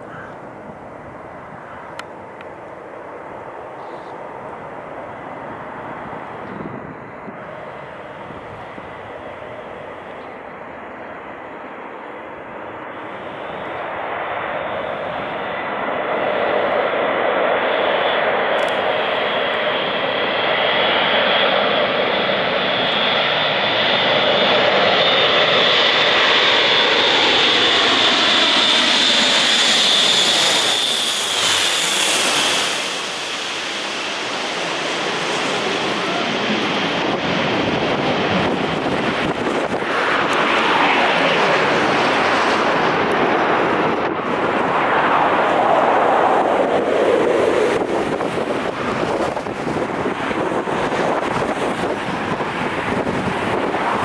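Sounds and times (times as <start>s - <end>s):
turboprop aircraft passing overhead: 0.0s - 54.0s.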